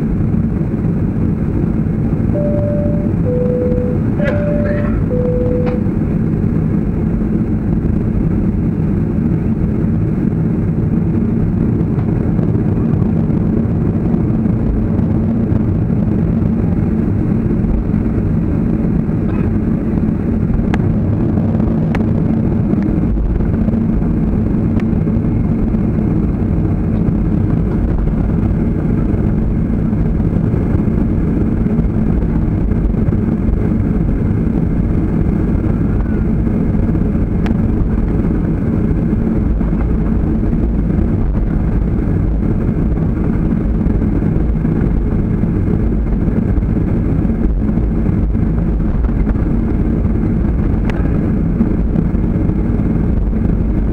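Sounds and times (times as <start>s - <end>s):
jet engines humming: 0.0s - 53.9s.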